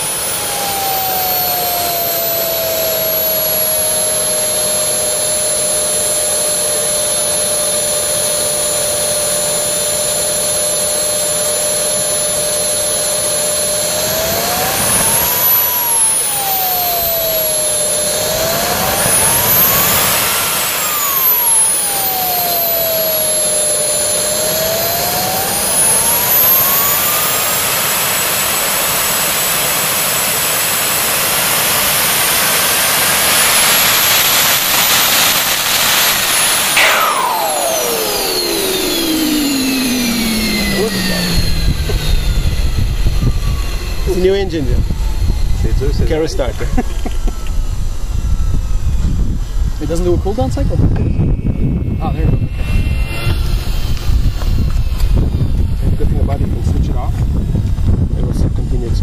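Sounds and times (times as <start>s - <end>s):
turbojet engine whine: 0.0s - 59.0s.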